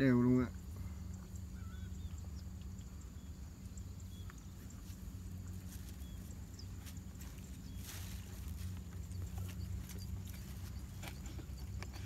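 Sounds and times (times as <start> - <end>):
distant backpack sprayer engine: 0.0 - 12.0
faint bird chirps: 0.4 - 11.9.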